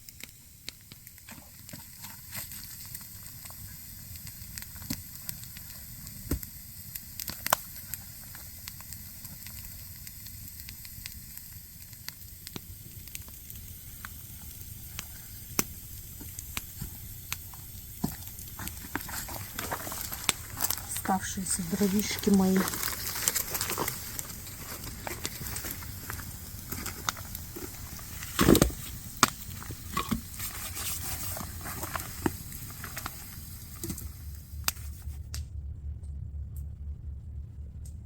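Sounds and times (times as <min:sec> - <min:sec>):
campfire crackling: 0:00.0 - 0:36.0
fire pops: 0:00.0 - 0:36.7.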